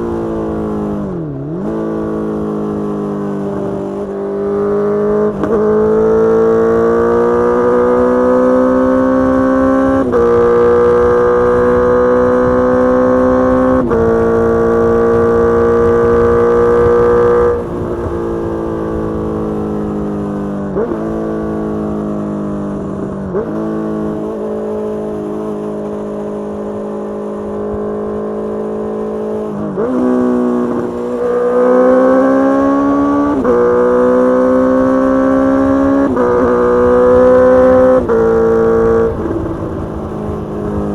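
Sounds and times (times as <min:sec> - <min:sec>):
engine revving on downshifts: 0:00.0 - 0:40.9
motorcycle engine under load: 0:00.0 - 0:40.9.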